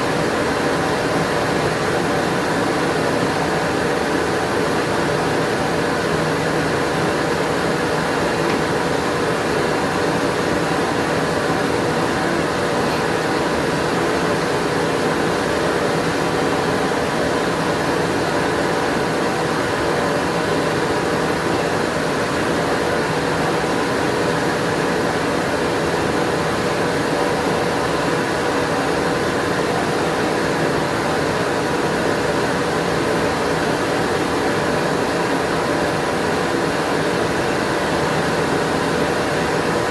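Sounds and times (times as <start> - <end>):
steady burner roar: 0.0 - 39.9.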